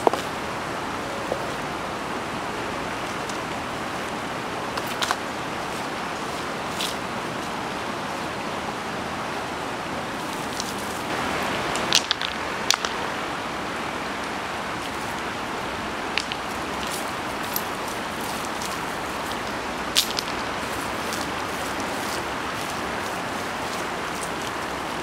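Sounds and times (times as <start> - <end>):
river running over stones: 0.0 - 25.0.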